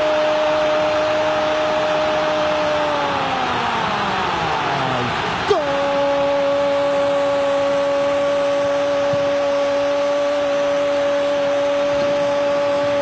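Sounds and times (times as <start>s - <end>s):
stadium crowd noise: 0.0s - 13.0s.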